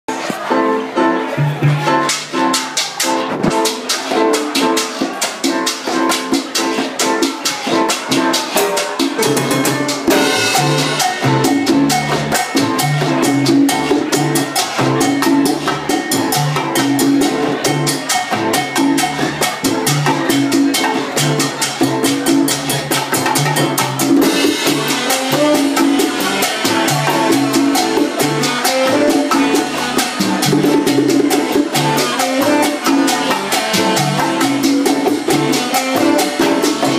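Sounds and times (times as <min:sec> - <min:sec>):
bass line: 0:00.1 - 0:05.2, 0:05.8 - 0:36.9
live salsa band playing: 0:00.1 - 0:36.9
maracas: 0:01.8 - 0:36.9.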